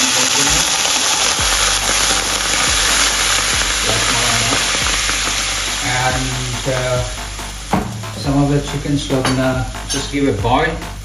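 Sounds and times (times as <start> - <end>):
wine sizzling in hot pan: 0.0 - 10.3.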